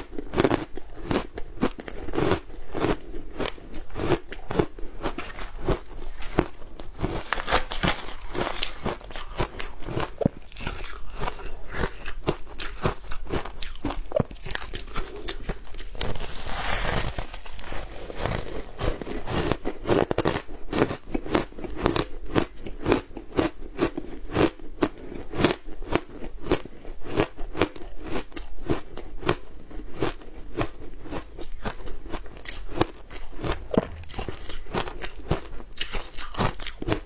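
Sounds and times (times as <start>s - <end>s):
ice crunching while chewed: 0.0s - 37.0s.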